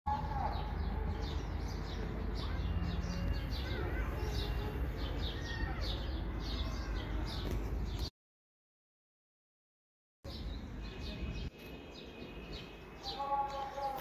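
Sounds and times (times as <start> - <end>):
small birds chirping: 0.1 - 8.1, 10.3 - 14.0.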